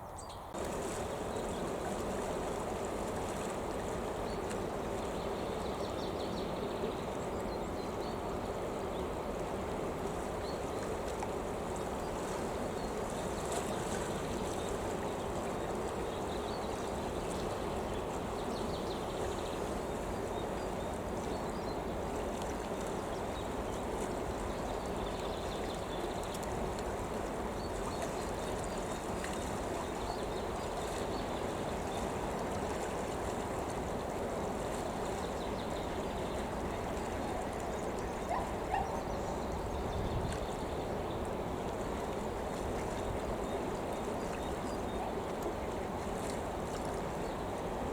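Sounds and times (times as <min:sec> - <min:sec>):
running water rushing: 0:00.6 - 0:05.7, 0:07.0 - 0:47.9.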